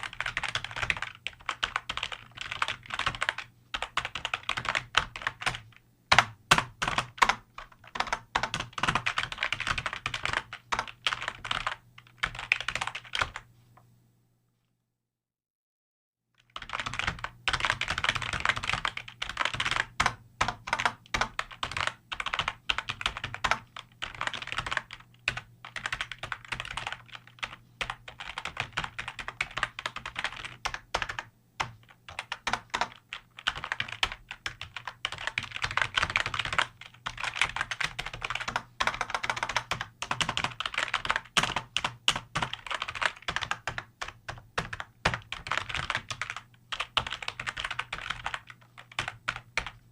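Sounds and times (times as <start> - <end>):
fast keyboard typing: 0.0 - 13.5, 16.4 - 49.9.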